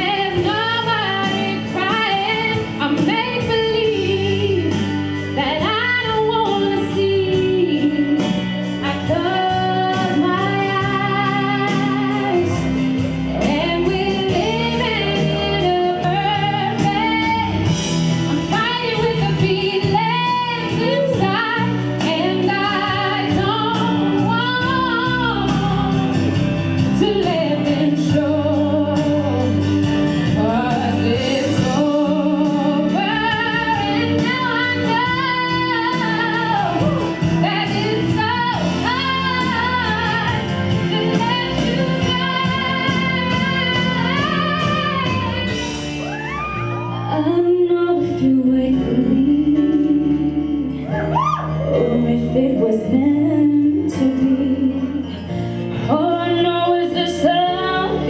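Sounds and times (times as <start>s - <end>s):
woman singing with vibrato: 0.0s - 29.6s, 30.2s - 58.0s
sustained instrumental accompaniment: 4.1s - 58.0s.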